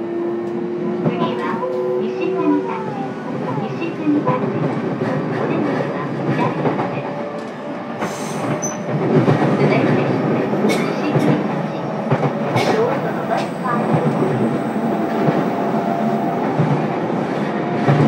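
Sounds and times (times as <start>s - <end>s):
train running noise: 0.0s - 18.0s
rail joint clicks: 0.4s - 18.0s.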